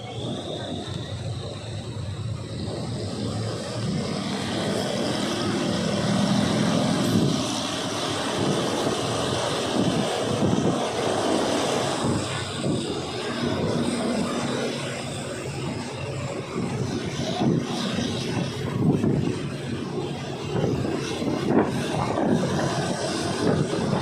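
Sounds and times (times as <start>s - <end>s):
passenger train rumbling: 0.0s - 24.0s
rush of air: 0.0s - 24.0s.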